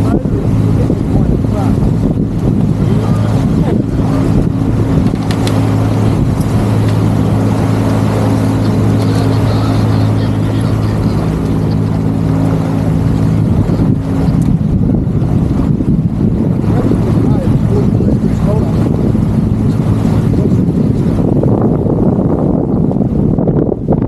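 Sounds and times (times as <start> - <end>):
boat engine humming: 0.0 - 24.0
rushing water: 0.0 - 24.0
rushing wind: 0.0 - 24.0.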